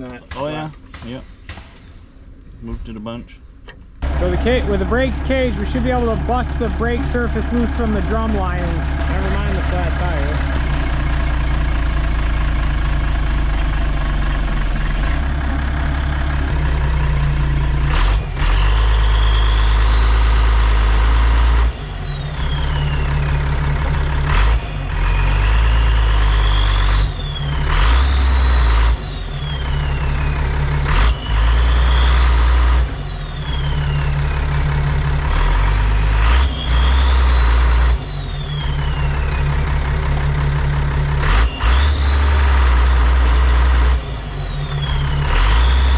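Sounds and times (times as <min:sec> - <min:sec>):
diesel truck engine revving: 0:04.0 - 0:45.9
turbo whine: 0:04.0 - 0:45.9.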